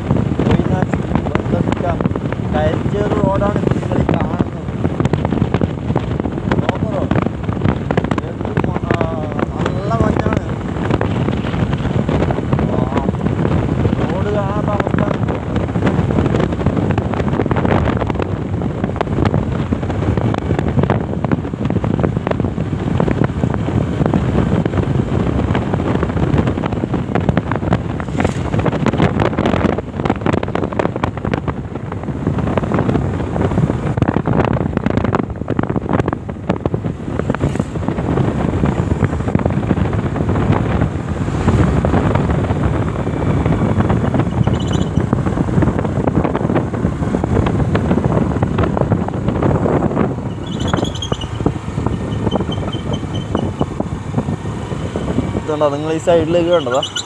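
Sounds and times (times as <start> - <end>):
motorbike engine: 0.0 - 57.0
road noise: 0.0 - 57.0
wind rushing over microphone: 0.0 - 57.0.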